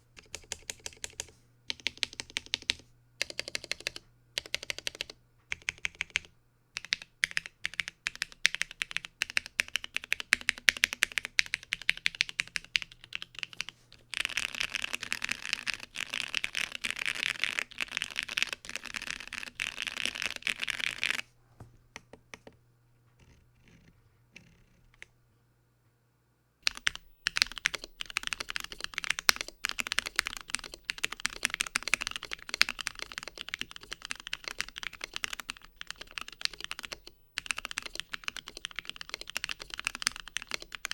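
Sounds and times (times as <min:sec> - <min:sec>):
fast typing on mechanical keyboard: 0:00.2 - 0:21.2, 0:26.6 - 0:40.9.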